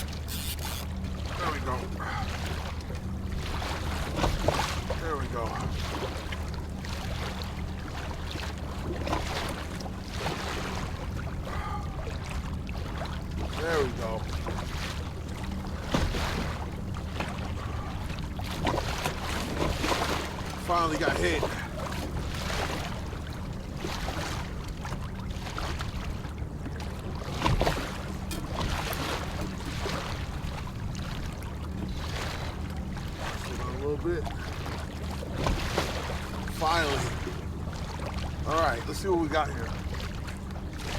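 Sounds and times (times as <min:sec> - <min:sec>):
small water splashes: 0:00.0 - 0:40.9
steady low hum: 0:00.0 - 0:40.9
water around a kayak: 0:00.0 - 0:40.9
wind: 0:00.0 - 0:40.9.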